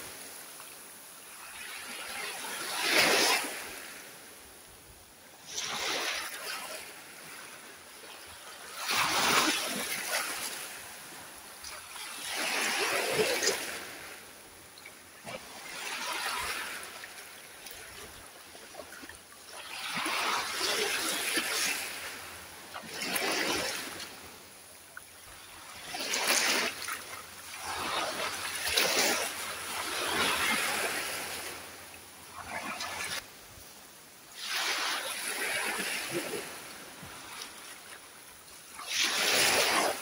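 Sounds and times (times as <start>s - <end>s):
small waves breaking on beach: 0.0s - 40.0s.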